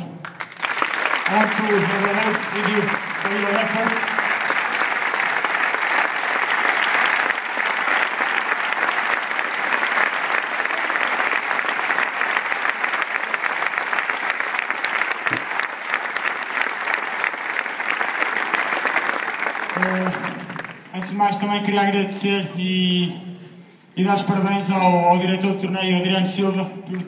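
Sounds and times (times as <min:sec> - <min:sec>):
crowd applauding: 0:00.0 - 0:21.8.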